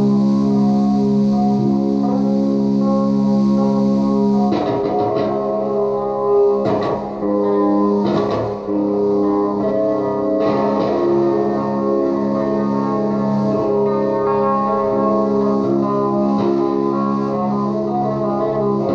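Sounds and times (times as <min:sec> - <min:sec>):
electric guitar noise loop: 0:00.0 - 0:18.9
sustained drone: 0:00.0 - 0:18.9.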